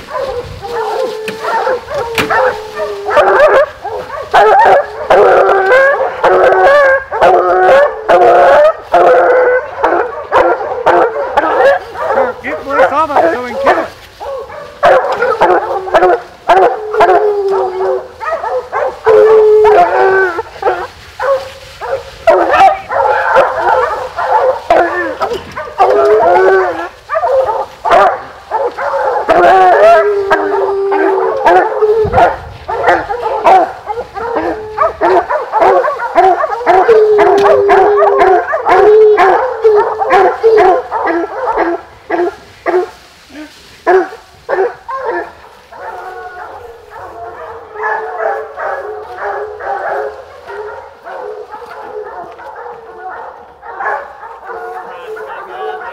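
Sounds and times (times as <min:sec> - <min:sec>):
hounds barking: 0:00.0 - 0:55.9
hounds baying and howling: 0:00.0 - 0:55.9.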